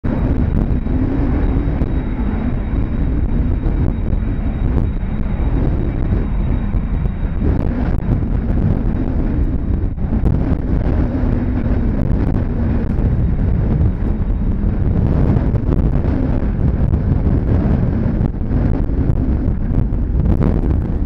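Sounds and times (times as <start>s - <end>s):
jet engines rumbling: 0.0s - 21.0s
wind buffeting microphone: 0.0s - 21.0s.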